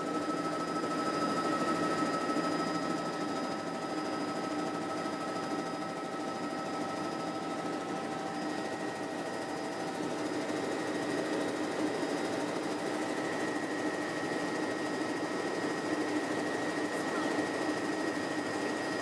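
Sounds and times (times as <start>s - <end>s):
helicopter engine and rotor noise: 0.0s - 19.0s.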